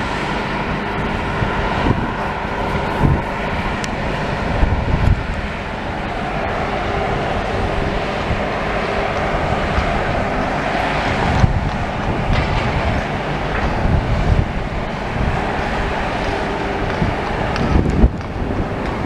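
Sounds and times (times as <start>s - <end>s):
heavy diesel machinery rumbling: 0.0s - 19.0s
wind on microphone: 0.0s - 19.0s.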